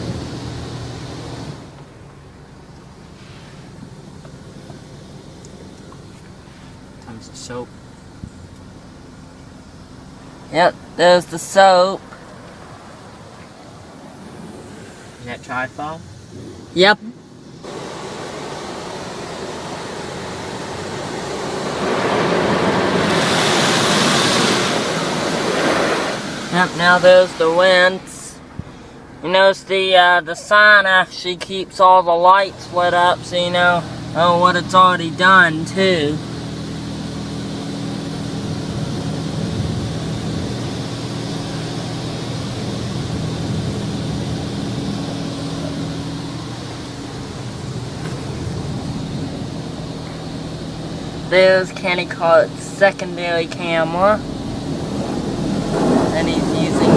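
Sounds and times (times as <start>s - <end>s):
car wash spray hissing: 0.0s - 56.9s.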